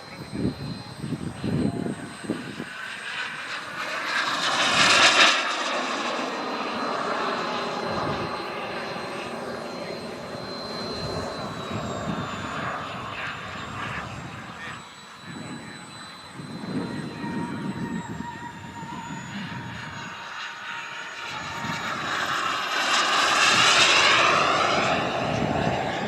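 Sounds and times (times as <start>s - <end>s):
model jet engine roar and whine: 0.0s - 26.0s.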